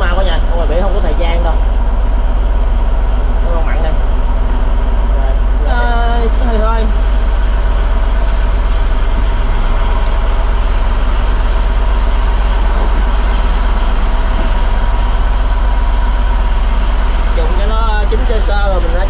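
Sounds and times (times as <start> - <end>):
boat diesel engine droning: 0.0 - 19.0.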